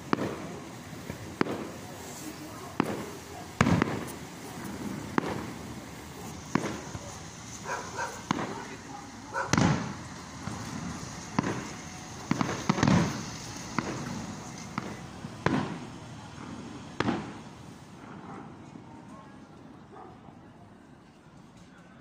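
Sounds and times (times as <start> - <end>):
fireworks exploding with bangs: 0.0 - 19.0.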